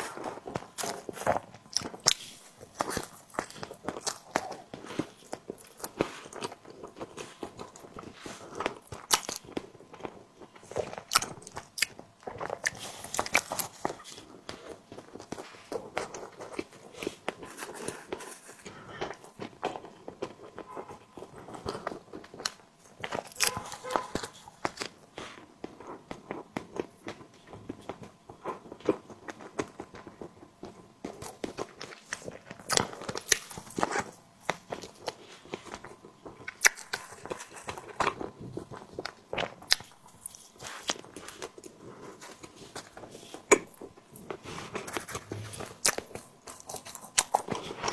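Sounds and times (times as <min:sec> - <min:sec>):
biting and chewing: 0:00.0 - 0:47.9.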